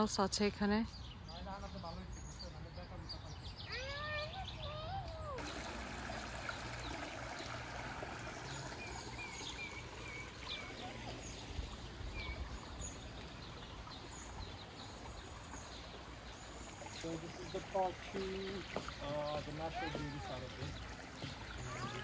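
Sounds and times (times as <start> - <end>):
outdoor background hiss: 0.0 - 21.9
small birds chirping: 0.0 - 22.0.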